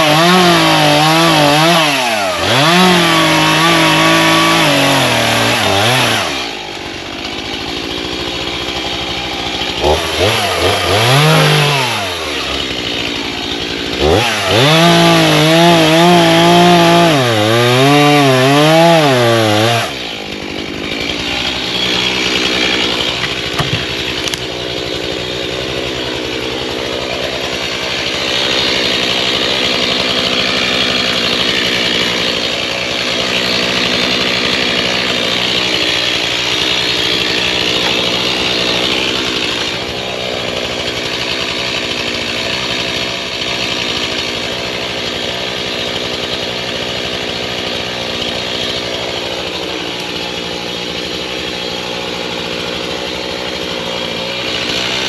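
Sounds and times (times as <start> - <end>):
small engine power tool running: 0.0 - 55.0.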